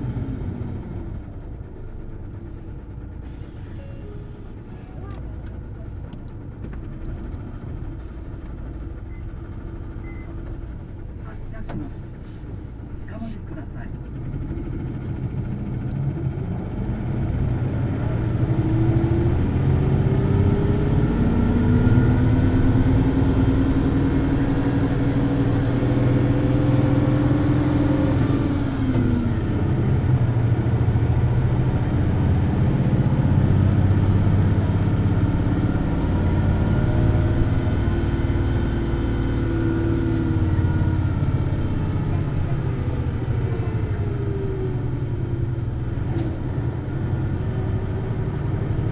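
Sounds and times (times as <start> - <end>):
bus engine revving: 0.0 - 48.9.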